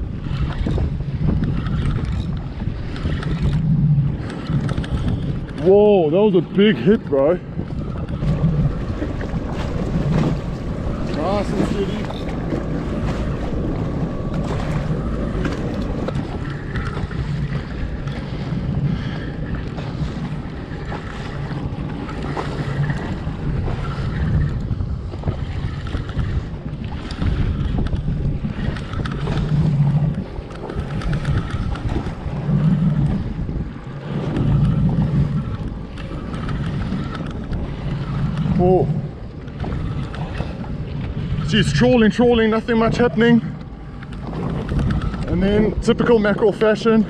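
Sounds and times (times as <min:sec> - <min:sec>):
choppy sea water: 0:00.0 - 0:47.0
wind buffeting microphone: 0:00.0 - 0:47.0.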